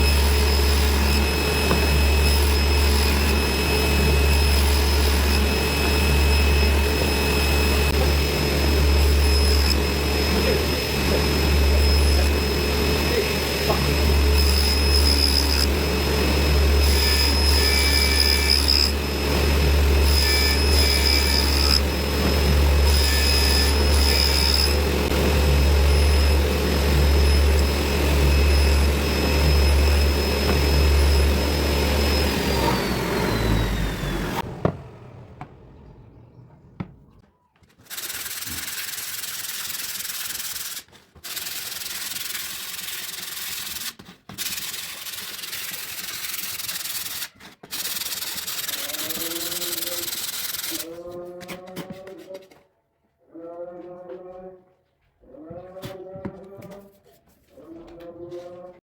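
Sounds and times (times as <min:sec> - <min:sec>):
table saw motor whine: 0:00.0 - 0:37.2, 0:37.9 - 0:51.0.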